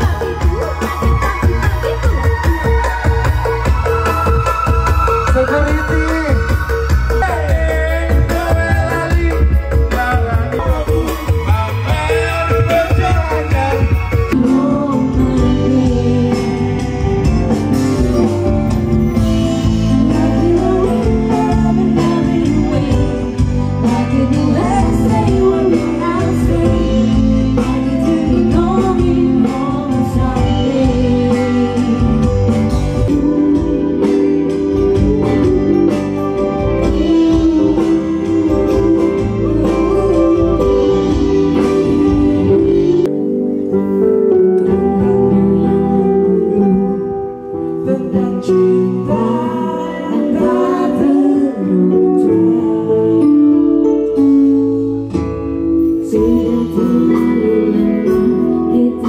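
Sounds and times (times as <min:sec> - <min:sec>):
live band playing: 0:00.0 - 0:59.0
woman and man singing: 0:04.4 - 0:17.1, 0:19.6 - 0:43.1, 0:45.6 - 0:54.5, 0:56.0 - 0:59.0.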